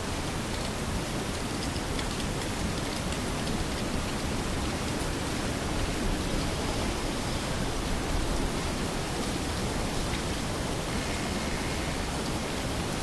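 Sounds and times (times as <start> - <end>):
steady hiss-like noise: 0.0 - 13.0.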